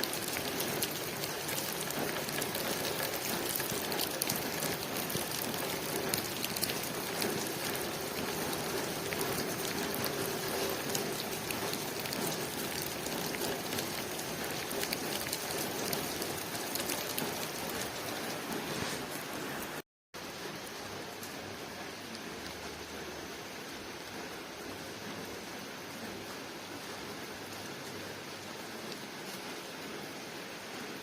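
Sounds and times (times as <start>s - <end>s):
rain on a window pane: 0.0s - 31.0s.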